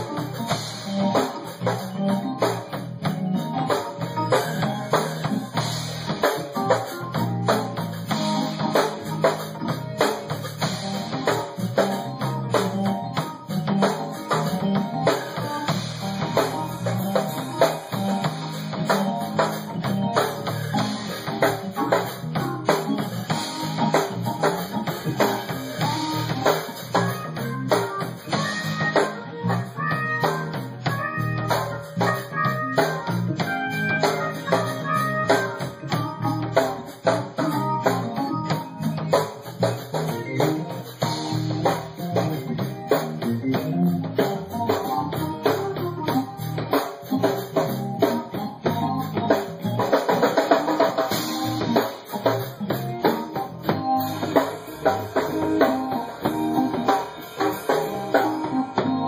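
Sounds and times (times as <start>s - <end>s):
song with drums and guitar: 0.0s - 59.0s.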